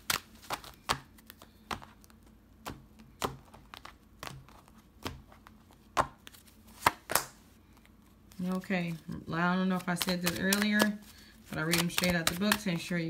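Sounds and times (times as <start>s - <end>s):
cards shuffled by hand: 0.0s - 13.0s.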